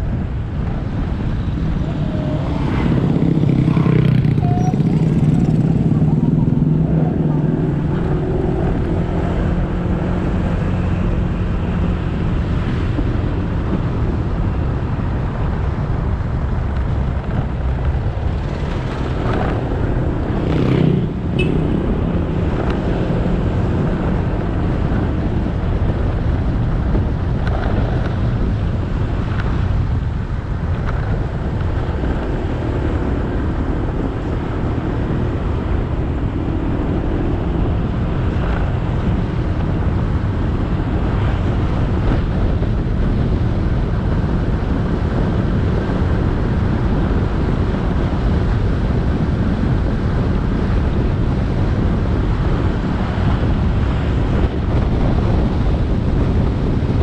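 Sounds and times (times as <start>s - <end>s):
tyre and road noise: 0.0s - 57.0s
wind buffeting microphone: 0.0s - 57.0s.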